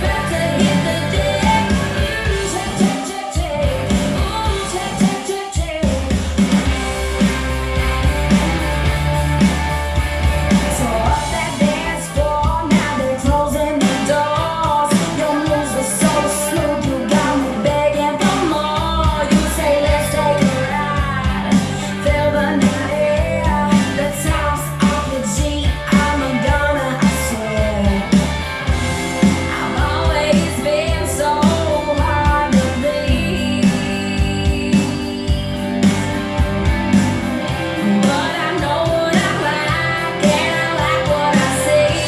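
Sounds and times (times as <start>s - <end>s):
woman singing: 0.0s - 6.5s, 10.6s - 28.2s, 29.2s - 35.9s, 37.0s - 42.0s
pop-rock song: 0.0s - 42.0s.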